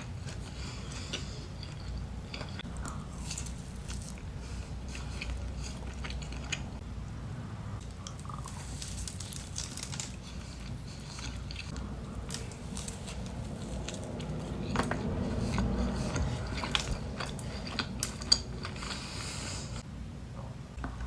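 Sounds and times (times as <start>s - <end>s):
chewing and biting donut: 0.0s - 6.8s, 7.8s - 19.8s
low steady hum: 0.0s - 21.0s.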